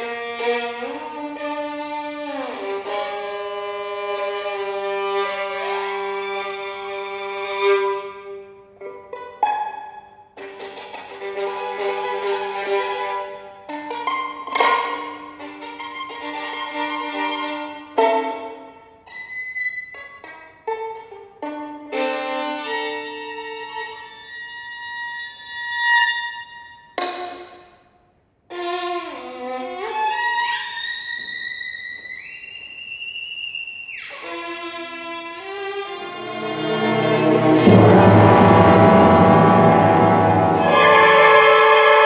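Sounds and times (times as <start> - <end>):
violin playing: 0.0 - 27.7, 28.5 - 42.0.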